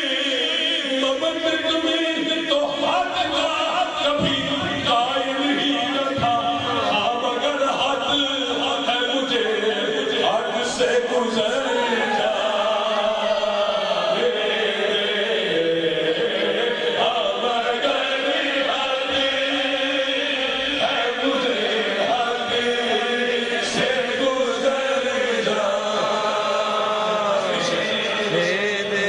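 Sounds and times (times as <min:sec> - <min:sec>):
man chanting into a microphone: 0:00.0 - 0:13.5, 0:17.0 - 0:29.0
hum of voices: 0:00.0 - 0:29.0.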